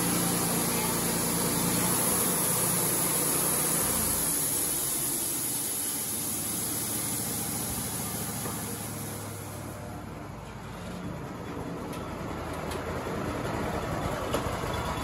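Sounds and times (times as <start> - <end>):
band sawmill running: 0.0 - 15.0.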